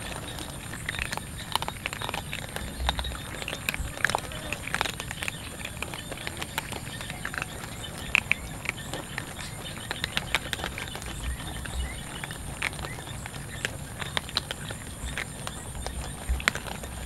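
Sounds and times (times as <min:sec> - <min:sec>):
cats crunching dry kibble: 0:00.0 - 0:17.0.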